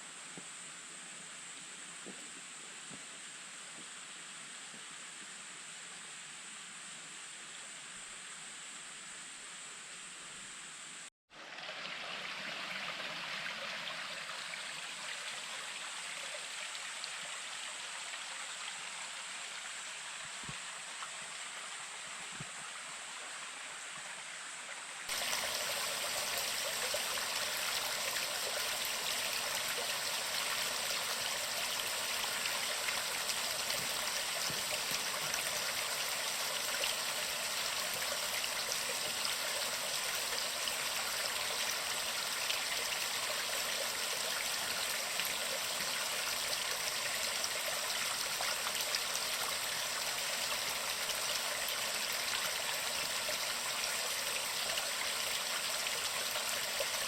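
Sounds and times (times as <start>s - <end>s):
flowing water rushing: 11.3s - 57.0s.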